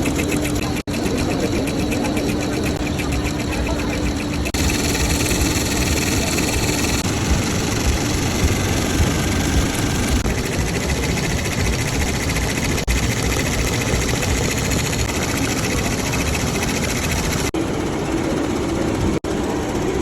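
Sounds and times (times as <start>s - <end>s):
embroidery machine stitching: 0.0s - 17.6s.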